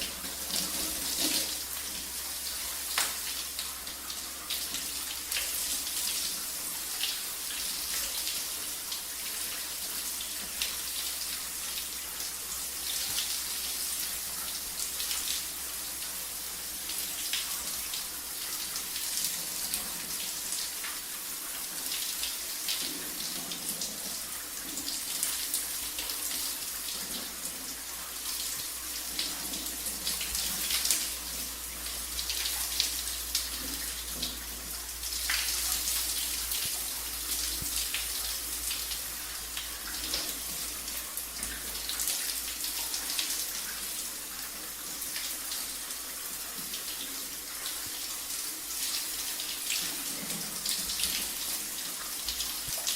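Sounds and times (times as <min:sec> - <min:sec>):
shower water spraying: 0:00.0 - 0:52.9.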